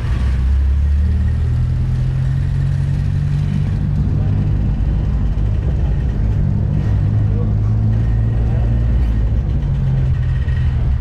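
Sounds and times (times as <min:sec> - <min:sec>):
road noise: 0:00.0 - 0:11.0
vehicle engine droning: 0:00.0 - 0:11.0.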